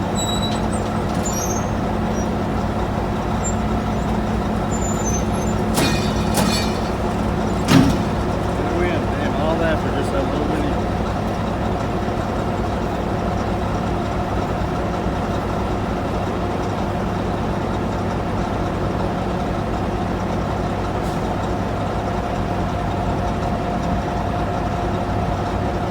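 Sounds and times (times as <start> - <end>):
heavy engine idling: 0.0 - 25.9.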